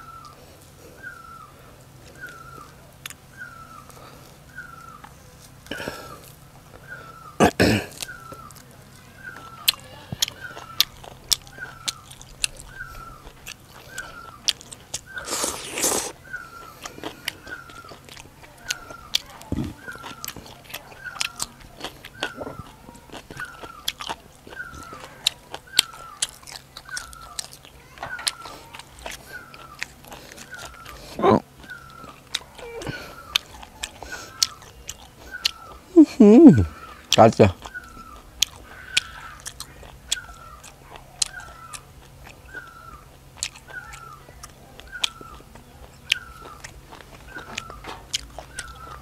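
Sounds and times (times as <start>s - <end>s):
chewing and crunching crisp food: 0.0s - 49.0s.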